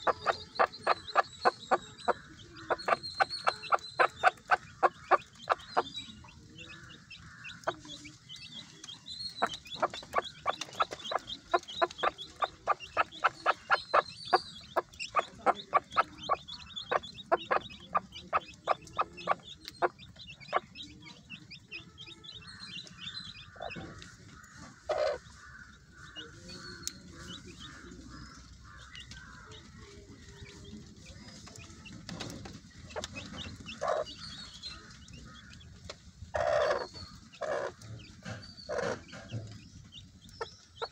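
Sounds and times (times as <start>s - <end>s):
chicks peeping: 0.0s - 40.9s
hen clucking: 0.0s - 40.9s.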